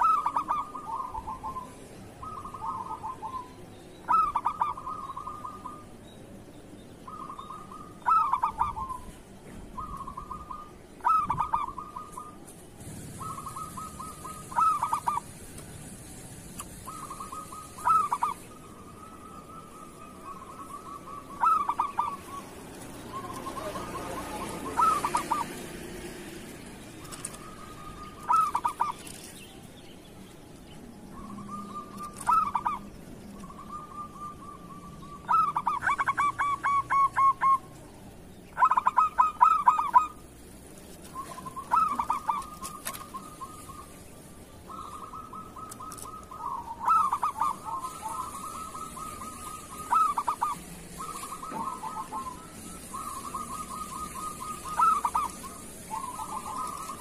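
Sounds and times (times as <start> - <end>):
doves cooing: 0.0 - 6.0, 7.0 - 29.4, 31.1 - 57.0.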